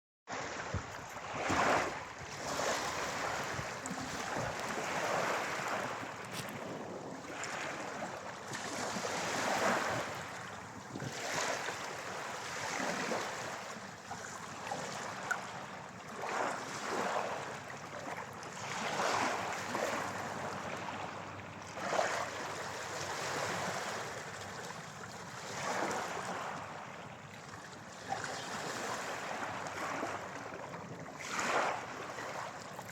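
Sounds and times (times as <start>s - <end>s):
small sea waves breaking: 0.3s - 32.9s.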